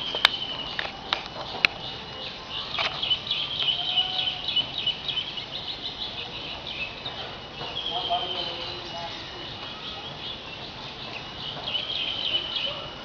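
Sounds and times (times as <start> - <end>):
small animals chirping: 0.0 - 13.0.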